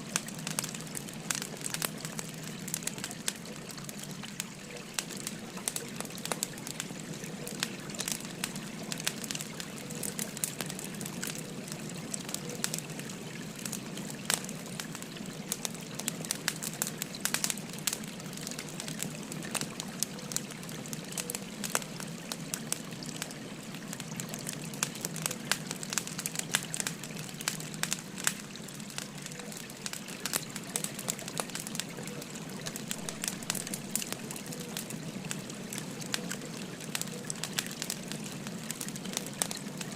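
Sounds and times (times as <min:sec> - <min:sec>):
babbling river: 0:00.0 - 0:39.9
firewood crackling and popping: 0:00.0 - 0:39.9.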